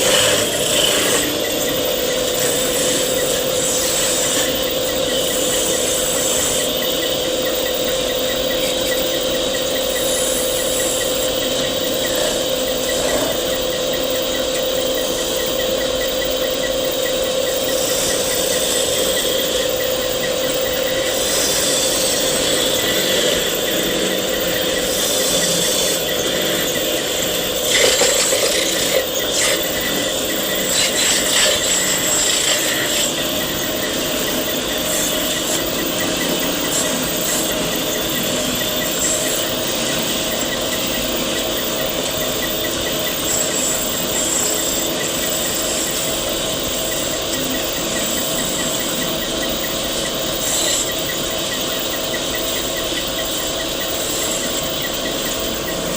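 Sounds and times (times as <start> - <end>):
wood lathe motor hum: 0.0 - 50.9.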